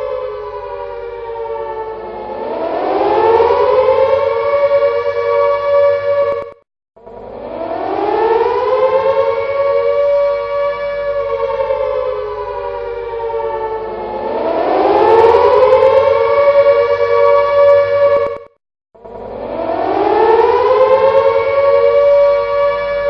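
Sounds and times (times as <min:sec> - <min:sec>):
air raid siren wailing: 0:00.0 - 0:23.0.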